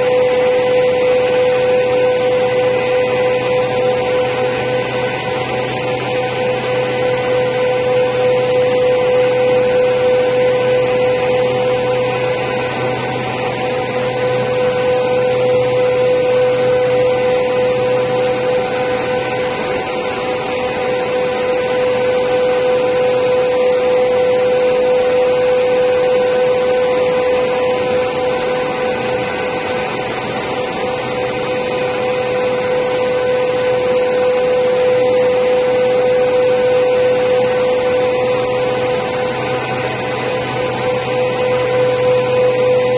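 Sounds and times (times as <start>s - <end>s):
planer moulder machine hum: 0.0s - 42.9s.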